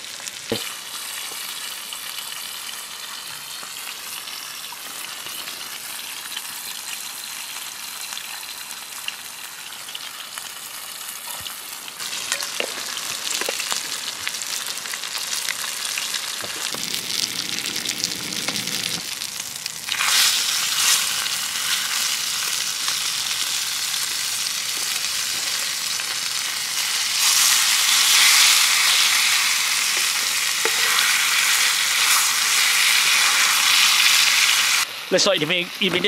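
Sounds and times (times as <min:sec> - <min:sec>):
fish frying in oil: 0:00.0 - 0:35.3.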